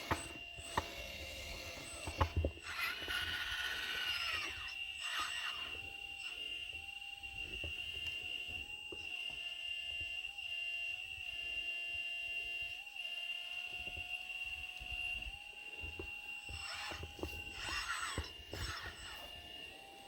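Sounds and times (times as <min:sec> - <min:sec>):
electric hydraulic pump whining: 0:00.0 - 0:20.0.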